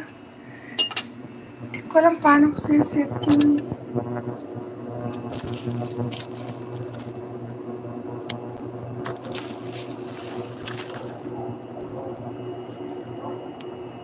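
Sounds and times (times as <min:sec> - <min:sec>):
range hood fan humming: 0:00.0 - 0:14.0.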